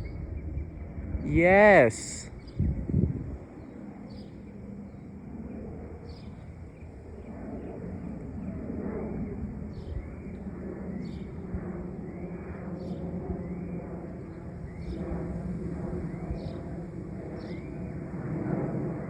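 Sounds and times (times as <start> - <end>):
jet engines rumbling overhead: 0.0 - 19.0.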